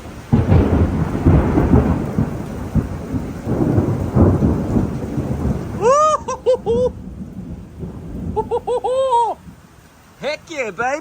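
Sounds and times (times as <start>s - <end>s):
thunder rumbling and cracking: 0.0s - 9.8s
steady rain: 0.0s - 11.0s.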